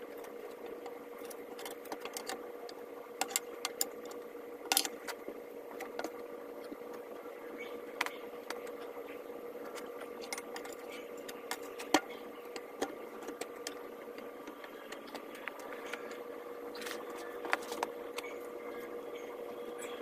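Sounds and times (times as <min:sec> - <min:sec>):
steady hum with faint tone: 0:00.0 - 0:20.0.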